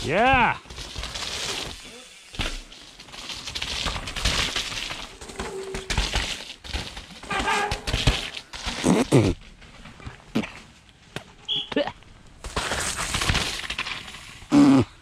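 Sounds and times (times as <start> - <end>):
mountain bike passing through mud: 0.0 - 10.7, 12.4 - 15.0.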